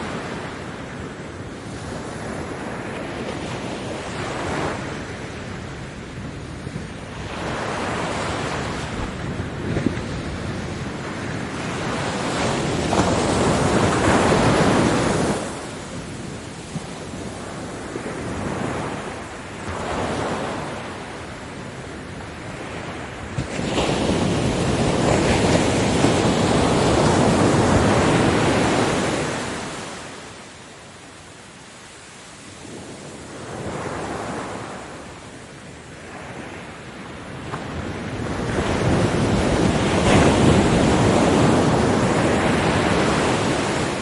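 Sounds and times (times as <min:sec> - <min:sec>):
ocean waves breaking on beach: 0:00.0 - 0:44.0.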